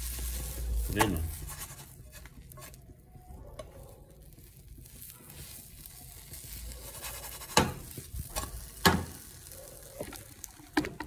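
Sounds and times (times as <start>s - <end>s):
crepe sizzling in a frying pan: 0.0s - 11.0s.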